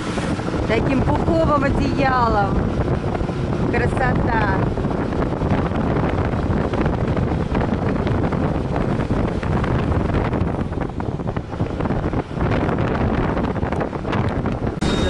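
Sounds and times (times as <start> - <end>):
bus rumbling on road: 0.0 - 15.0
wind buffeting microphone: 0.0 - 15.0.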